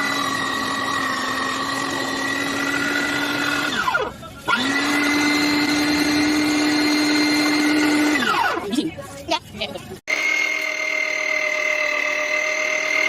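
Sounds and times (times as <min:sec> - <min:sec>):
meat grinder motor whining: 0:00.0 - 0:08.7, 0:10.1 - 0:13.0.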